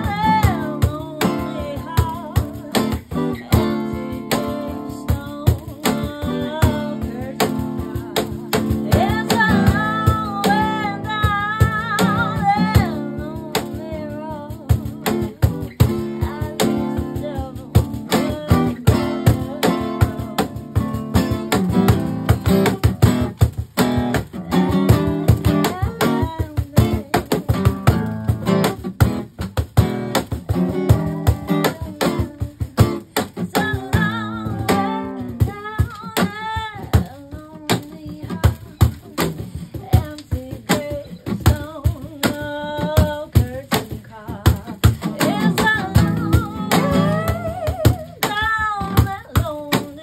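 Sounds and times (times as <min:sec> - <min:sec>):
cajon hits: 0:00.0 - 0:50.0
strummed acoustic guitar: 0:00.0 - 0:50.0
woman singing: 0:00.0 - 0:50.0.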